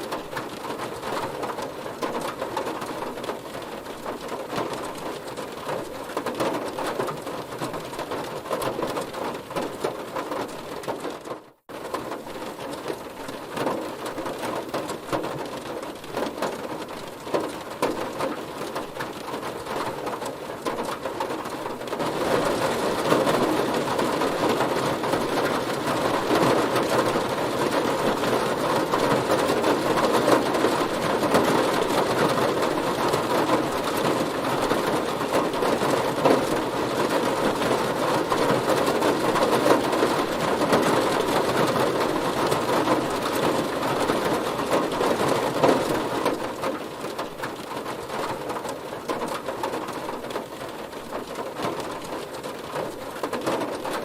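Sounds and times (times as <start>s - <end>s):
heavy rain on a car: 0.0s - 54.0s.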